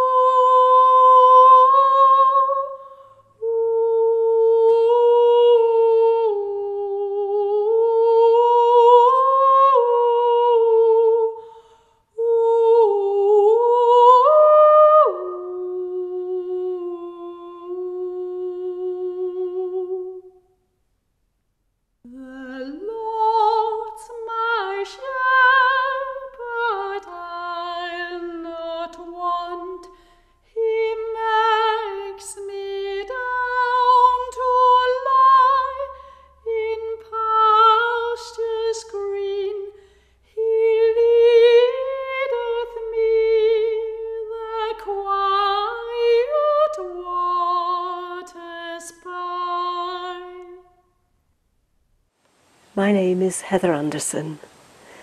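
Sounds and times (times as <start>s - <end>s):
woman singing wordless melody: 0.0s - 20.6s, 22.0s - 50.9s, 52.7s - 55.0s.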